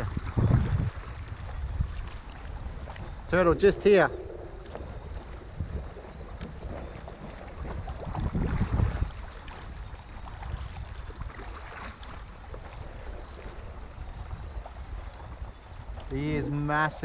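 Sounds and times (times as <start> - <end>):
light water sounds: 0.0 - 17.0
wind buffeting microphone: 0.0 - 17.0.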